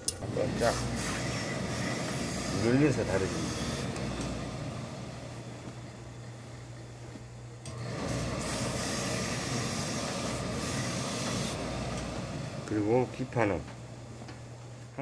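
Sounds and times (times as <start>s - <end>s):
steam iron hissing: 0.4s - 6.8s, 7.7s - 13.6s.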